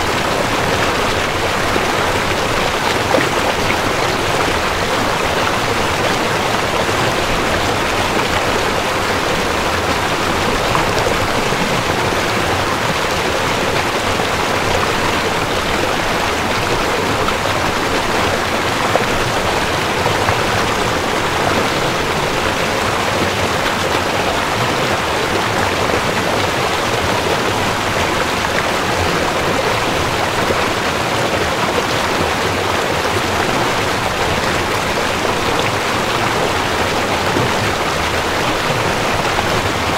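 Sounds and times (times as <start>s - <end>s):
river rushing over stones: 0.0s - 39.9s.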